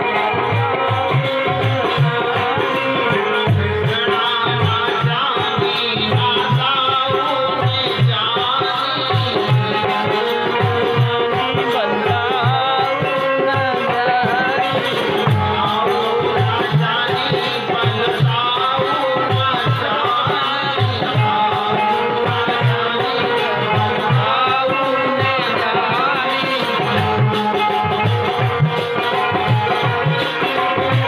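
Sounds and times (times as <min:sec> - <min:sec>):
hand drum beat: 0:00.0 - 0:31.0.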